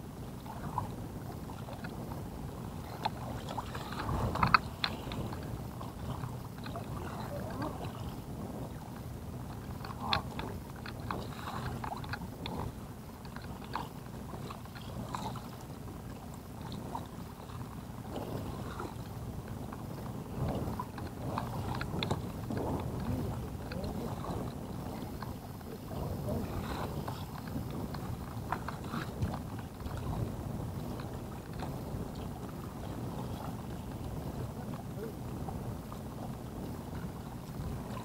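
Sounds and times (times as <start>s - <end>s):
water washing: 0.0s - 38.0s
wind: 0.0s - 38.0s.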